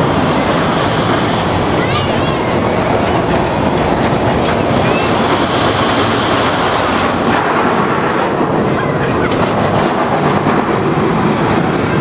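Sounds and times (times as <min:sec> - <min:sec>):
miniature train wheels on rails: 0:00.0 - 0:12.0.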